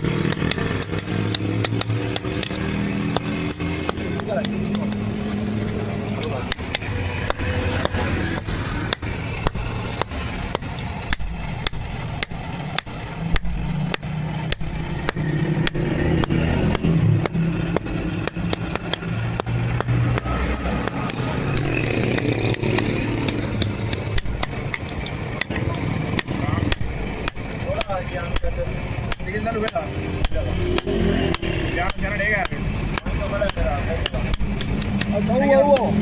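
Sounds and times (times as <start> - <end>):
hammer striking iron: 0.0 - 36.0
steady low rumble: 0.0 - 36.0.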